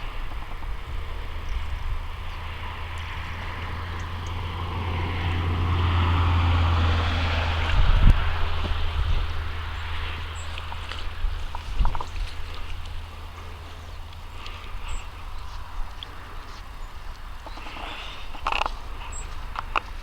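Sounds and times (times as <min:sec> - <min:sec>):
engine passing: 0:00.0 - 0:20.0
wind rumble on microphone: 0:00.0 - 0:20.0.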